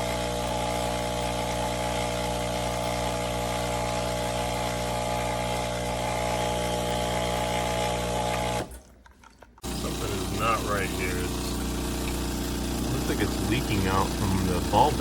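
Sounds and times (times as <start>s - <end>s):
espresso machine pump buzzing: 0.0s - 8.8s, 9.6s - 15.0s.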